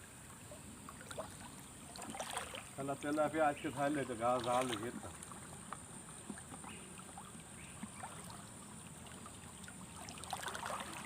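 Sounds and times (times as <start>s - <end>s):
water trickling in stream: 0.0s - 11.0s.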